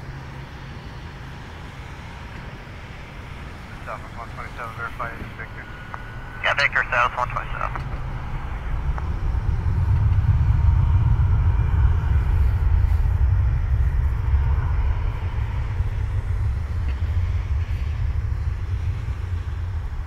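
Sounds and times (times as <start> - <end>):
faint engine whine: 0.0 - 20.0
jet engines deep rumble: 0.0 - 20.0.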